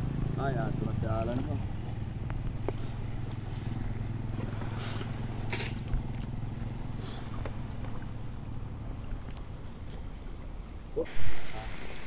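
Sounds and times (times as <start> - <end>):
low engine hum: 0.0 - 12.0
watery splashes: 0.0 - 12.0.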